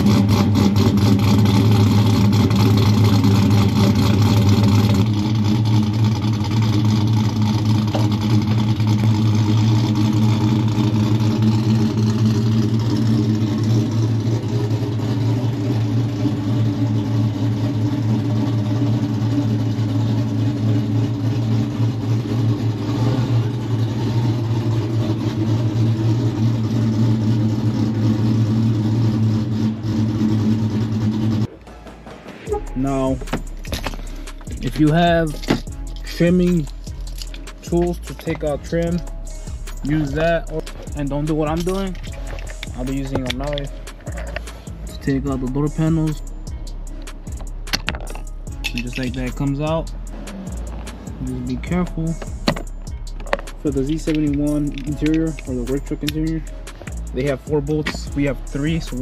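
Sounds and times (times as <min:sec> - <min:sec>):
truck engine running at low revs: 0:00.0 - 0:59.0.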